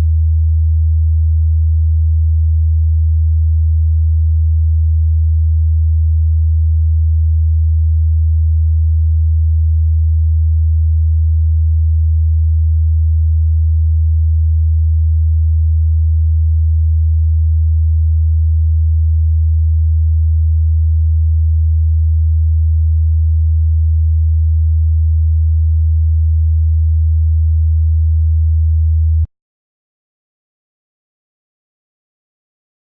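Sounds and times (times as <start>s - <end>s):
low synthesised sine tone: 0.0s - 29.3s.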